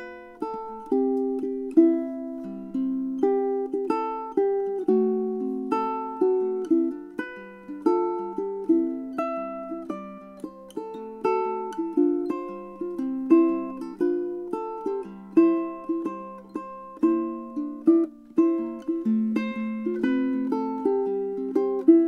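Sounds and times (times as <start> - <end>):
ukulele plucked chords: 0.0 - 22.0.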